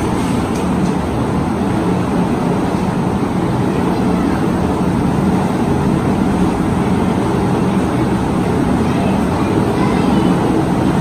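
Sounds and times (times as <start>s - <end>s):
metro train running: 0.0s - 11.0s.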